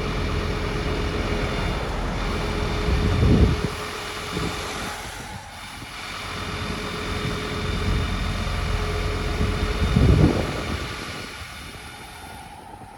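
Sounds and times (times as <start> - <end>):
truck diesel engine rumbling: 0.0 - 12.9.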